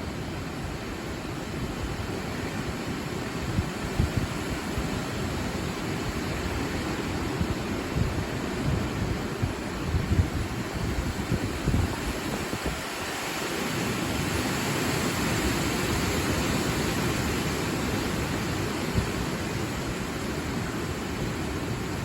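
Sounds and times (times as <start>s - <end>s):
leaves rustling: 0.0s - 22.0s
wind buffeting microphone: 0.0s - 22.0s
wind rushing through trees: 0.0s - 22.0s.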